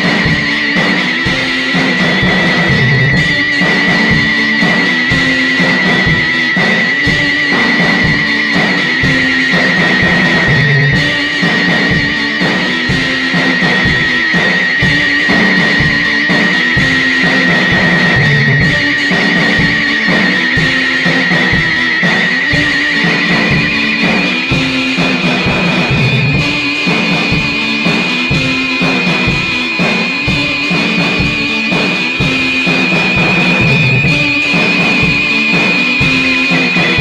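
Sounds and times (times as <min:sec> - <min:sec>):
drum kit: 0:00.0 - 0:37.0
guitar riff: 0:00.0 - 0:37.0.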